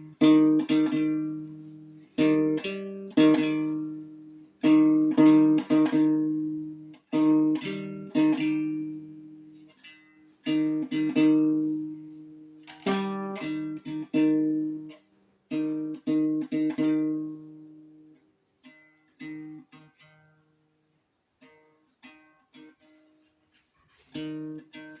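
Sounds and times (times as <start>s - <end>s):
strummed string instrument chords: 0.0s - 23.3s, 24.1s - 25.0s
plucked string notes: 0.0s - 25.0s.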